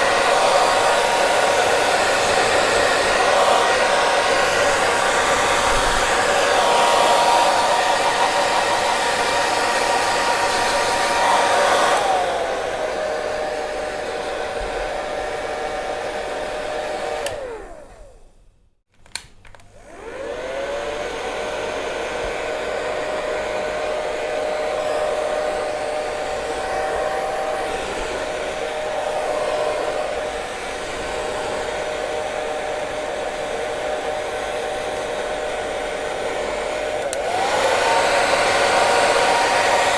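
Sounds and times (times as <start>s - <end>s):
hair dryer running: 0.0s - 18.4s, 19.1s - 39.9s.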